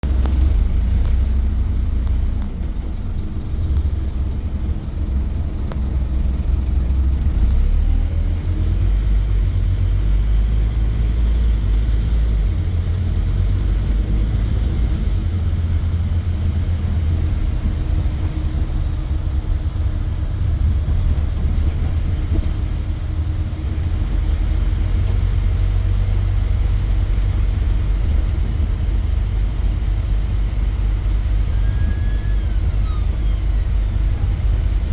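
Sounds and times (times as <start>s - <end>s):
diesel bus engine droning: 0.0s - 34.9s.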